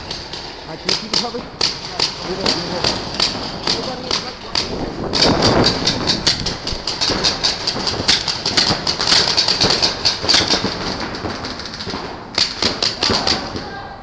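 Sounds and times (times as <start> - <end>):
paintball markers firing: 0.0 - 13.8.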